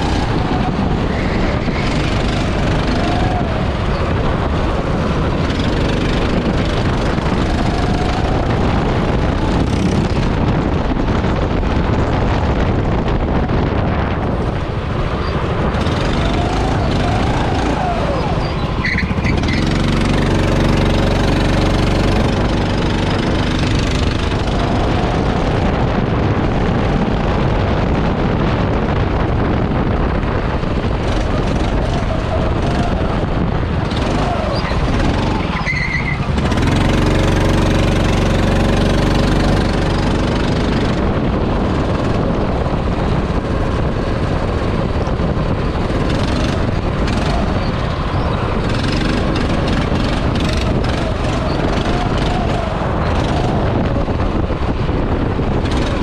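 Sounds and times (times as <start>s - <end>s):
racing kart engine revving: 0.0s - 56.0s
wind and road noise: 0.0s - 56.0s.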